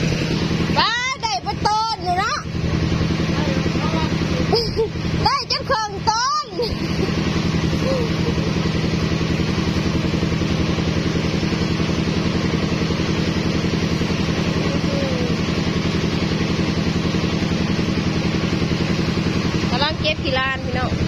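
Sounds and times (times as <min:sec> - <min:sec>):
threshing machine engine running: 0:00.0 - 0:21.0.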